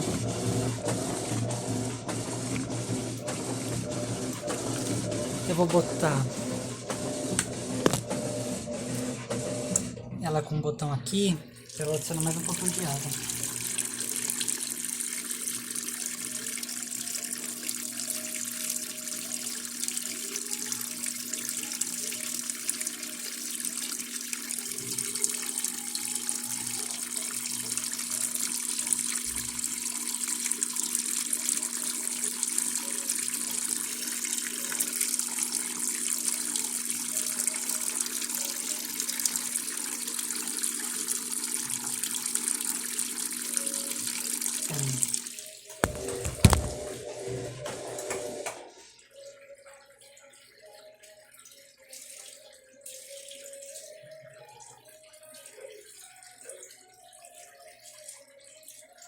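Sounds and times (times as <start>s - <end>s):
water pouring into washing machine: 0.0s - 9.9s, 11.2s - 59.0s.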